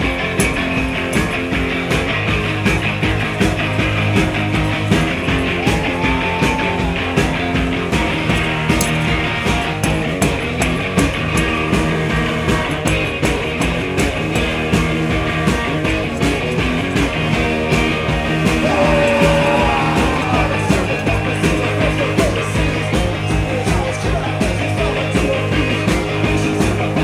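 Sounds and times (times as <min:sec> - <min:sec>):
electric guitars: 0:00.0 - 0:27.0
fast drum beat: 0:00.0 - 0:27.0.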